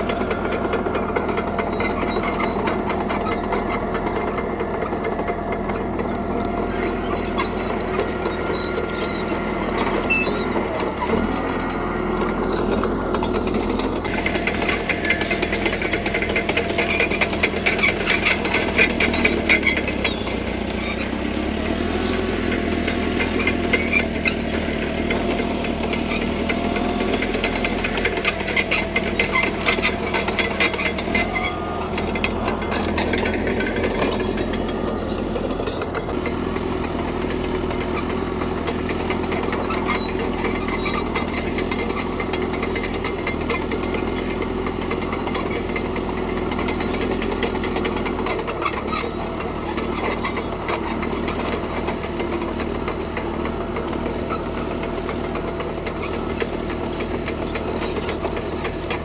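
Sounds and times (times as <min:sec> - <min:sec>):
diesel engine running: 0:00.0 - 0:59.0
steel tracks clanking and squealing: 0:00.0 - 0:59.0.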